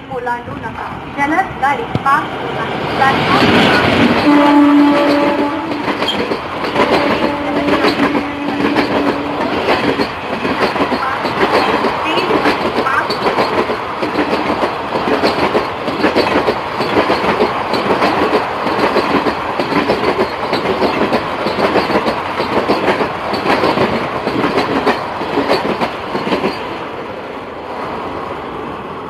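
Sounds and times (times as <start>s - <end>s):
train wheels clattering: 3.2s - 26.9s.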